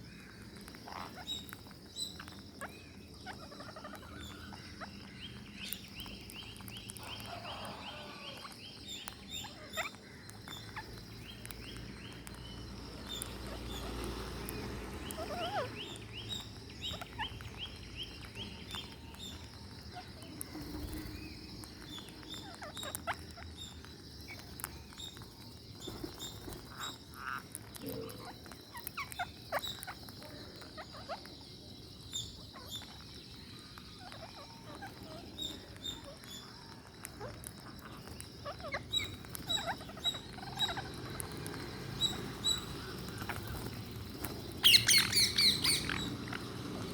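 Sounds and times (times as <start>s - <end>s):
beaks clicking and crunching on food: 0.0s - 46.9s
parakeets chirping: 0.0s - 46.9s.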